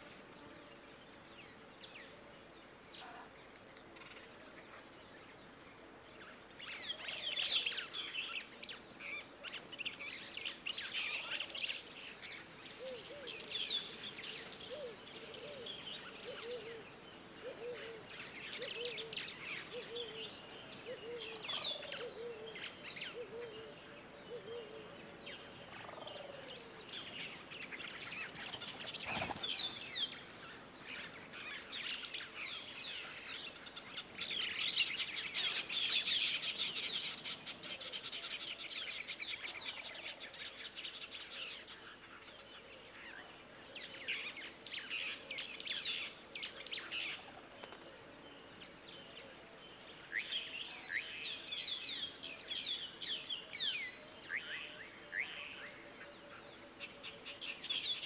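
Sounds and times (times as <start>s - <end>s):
birds chirping and calling: 6.6s - 58.0s.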